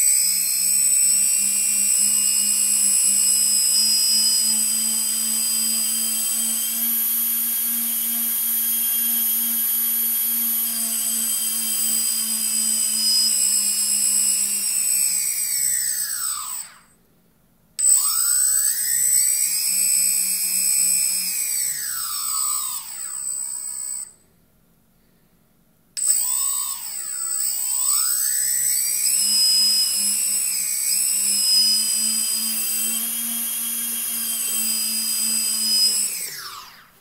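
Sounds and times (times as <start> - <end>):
electric motors whining: 0.0 - 16.9, 17.8 - 24.2, 26.0 - 37.0.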